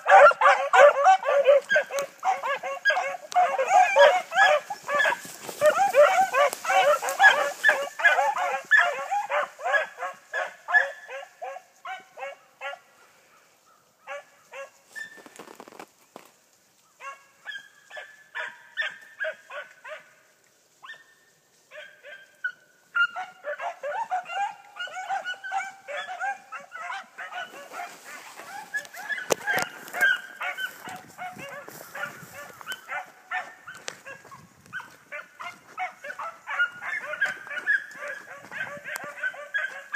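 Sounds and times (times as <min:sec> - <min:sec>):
hounds baying: 0:00.0 - 0:13.1, 0:17.0 - 0:20.2, 0:20.8 - 0:39.9.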